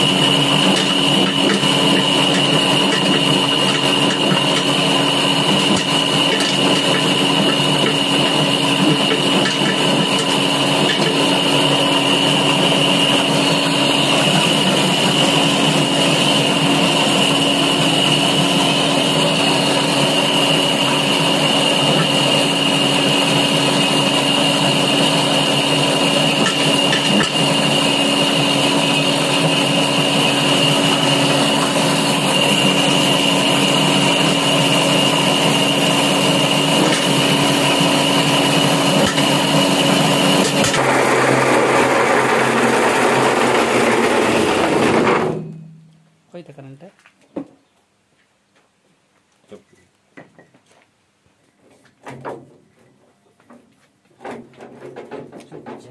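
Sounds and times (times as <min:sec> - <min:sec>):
peeling machine humming and whining: 0:00.0 - 0:45.6.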